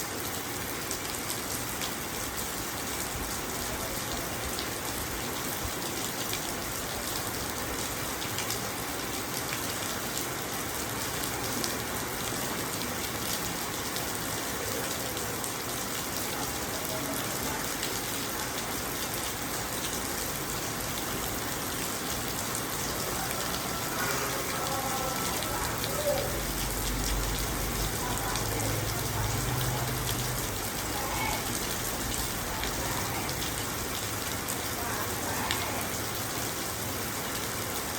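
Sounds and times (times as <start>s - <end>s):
rain pattering on a car: 0.0s - 37.9s.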